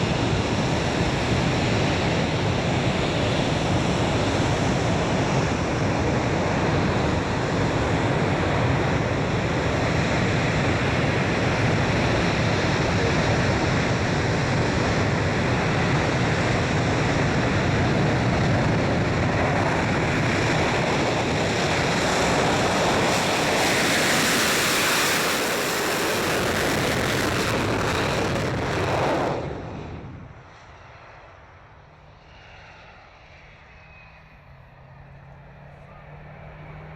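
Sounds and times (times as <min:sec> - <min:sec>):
high jet whine: 0:00.0 - 0:36.9
jet engines roaring: 0:00.0 - 0:36.9.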